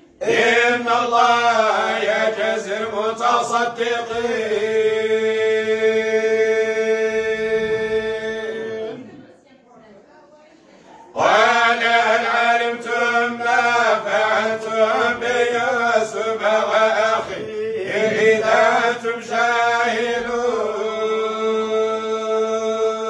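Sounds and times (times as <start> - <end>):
men chanting in unison: 0.2 - 9.2, 11.1 - 23.0.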